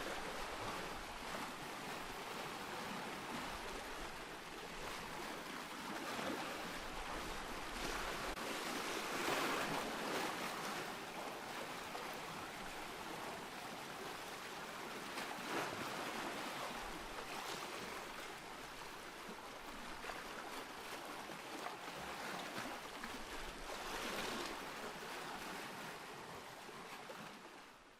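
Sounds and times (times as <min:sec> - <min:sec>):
ocean waves washing in: 0:00.0 - 0:27.8.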